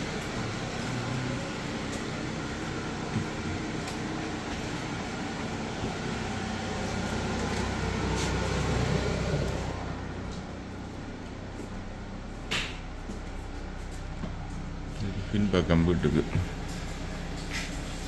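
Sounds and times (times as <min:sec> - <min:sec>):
fan running: 0:00.0 - 0:18.0.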